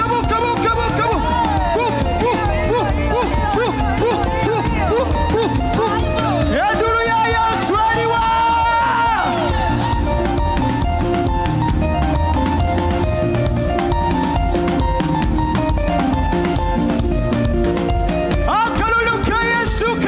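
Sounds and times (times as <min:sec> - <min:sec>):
drum kit kick and snare: 0:00.0 - 0:20.0
heavy bass line: 0:00.0 - 0:20.0
lead guitar melody: 0:00.0 - 0:20.0.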